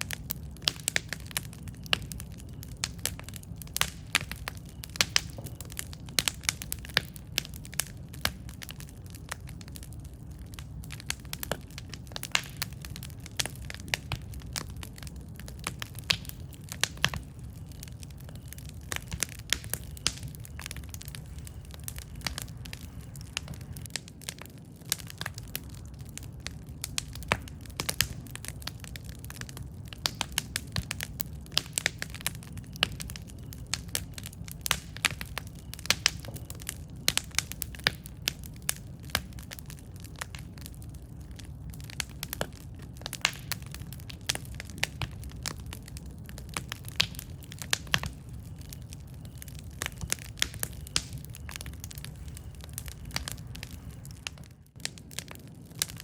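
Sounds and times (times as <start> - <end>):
burning wood crackling and popping: 0.0 - 56.0
low rumble of flame: 0.0 - 56.0.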